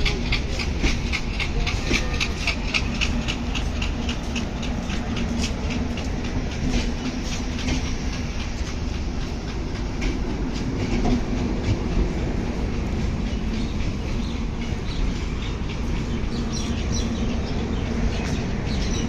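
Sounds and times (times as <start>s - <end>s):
passenger train rumbling past: 0.0s - 19.0s
train wheels clicking over rail joints: 0.0s - 19.0s.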